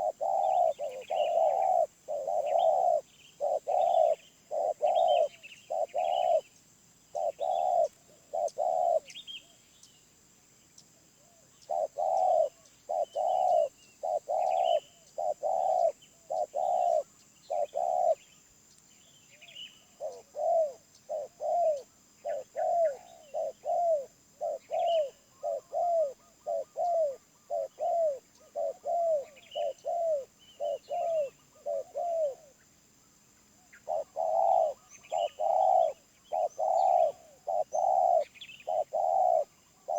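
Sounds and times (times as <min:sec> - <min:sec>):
dove cooing: 0:00.0 - 0:06.5, 0:07.1 - 0:09.2, 0:11.2 - 0:18.3, 0:19.8 - 0:32.6, 0:33.7 - 0:39.9
small birds chirping: 0:00.0 - 0:39.9.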